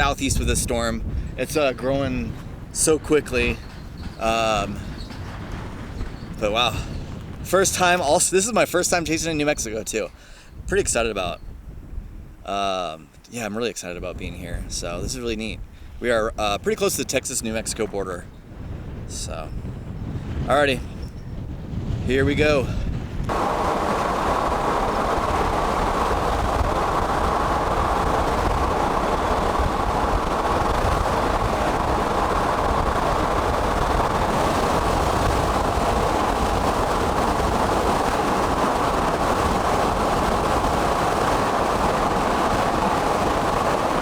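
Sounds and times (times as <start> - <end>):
car road and wind noise: 0.0 - 8.1, 14.1 - 44.0.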